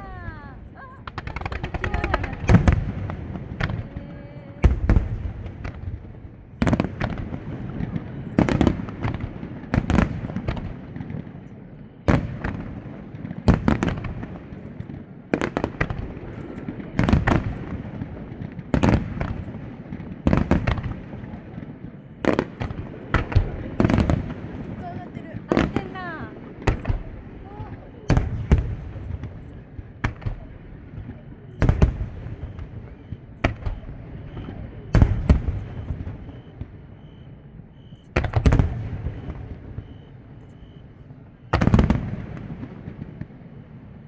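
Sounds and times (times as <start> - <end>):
crackling firework shells: 0.0 - 43.6
fireworks booming: 0.0 - 44.0.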